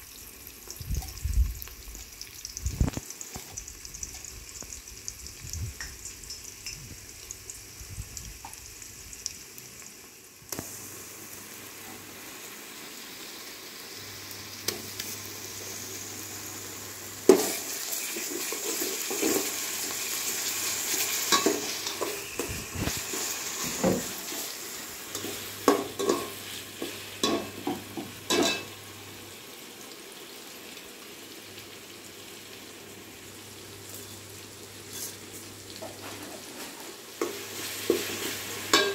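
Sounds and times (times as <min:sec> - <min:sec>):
onions sizzling in oil: 0:00.0 - 0:38.9.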